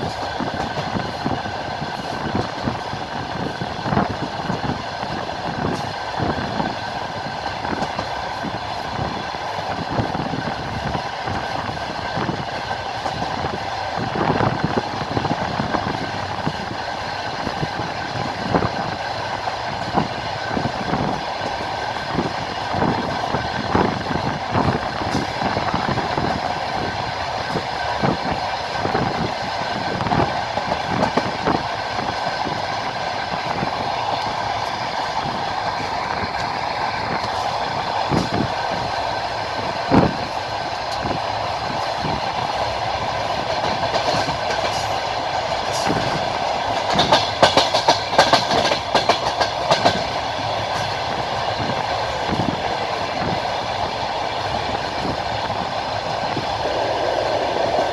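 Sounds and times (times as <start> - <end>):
train carriage rumble: 0.0 - 57.9.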